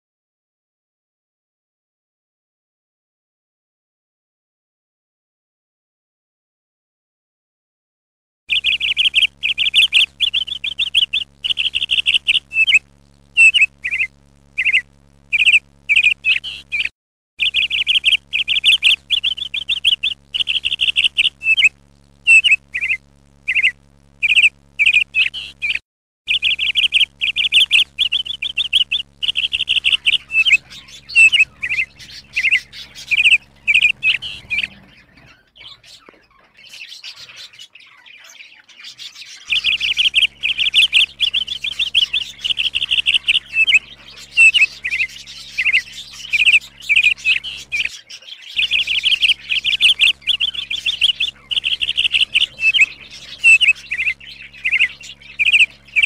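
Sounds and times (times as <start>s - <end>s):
budgerigars chirping: 8.5s - 12.8s, 13.4s - 56.0s
faint low hum: 8.5s - 56.0s.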